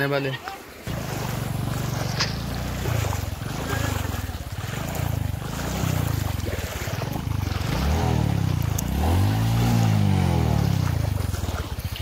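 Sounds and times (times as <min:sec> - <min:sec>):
water swishing: 0:00.0 - 0:12.0
scooter engine revving: 0:00.8 - 0:12.0.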